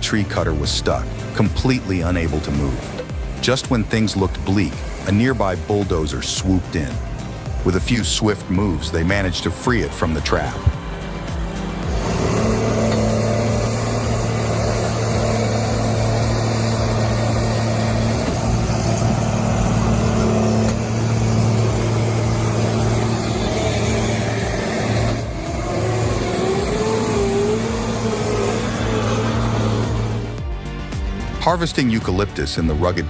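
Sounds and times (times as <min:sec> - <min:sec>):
wavering whine: 0:00.0 - 0:30.4
heavy diesel engine running: 0:00.0 - 0:31.6.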